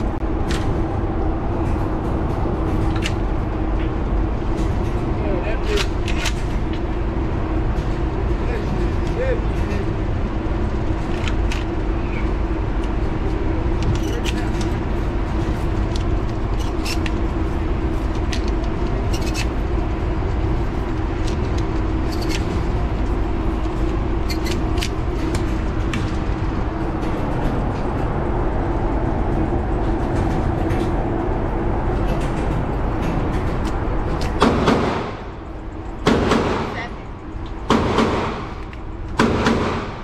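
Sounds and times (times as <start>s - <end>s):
low hum of shooting range: 0.0s - 40.0s.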